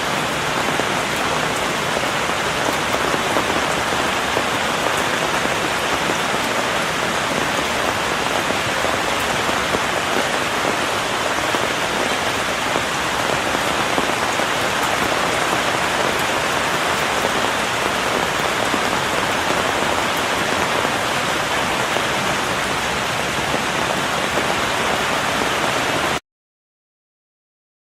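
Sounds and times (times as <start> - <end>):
rain on an umbrella: 0.0 - 26.2.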